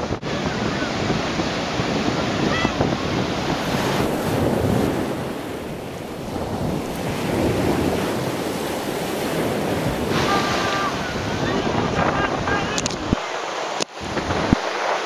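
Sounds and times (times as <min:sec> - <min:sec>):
rough surf: 0:00.0 - 0:15.0
strong wind buffeting microphone: 0:00.0 - 0:15.0.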